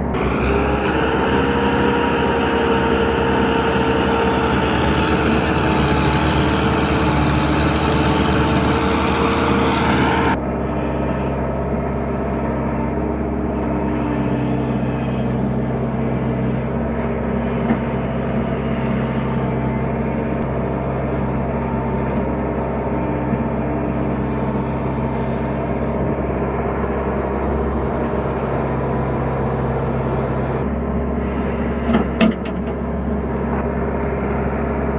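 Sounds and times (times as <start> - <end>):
tractor engine under load: 0.0 - 10.6, 11.6 - 34.9
engine running steadily: 0.0 - 34.9.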